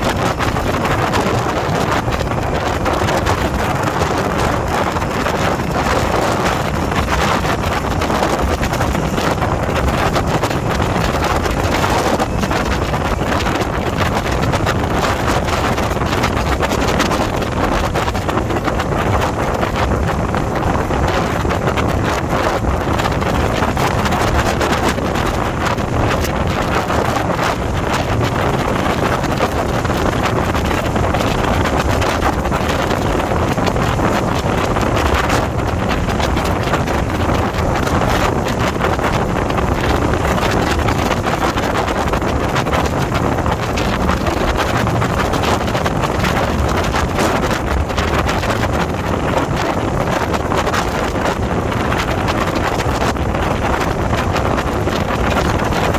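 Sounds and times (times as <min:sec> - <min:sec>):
motorcycle engine running: 0:00.0 - 0:48.8
wind buffeting microphone: 0:00.0 - 0:55.9.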